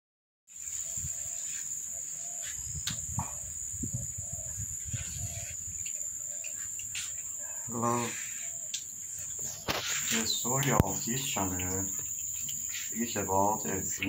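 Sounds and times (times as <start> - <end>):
insects chirping: 0.5 - 14.0.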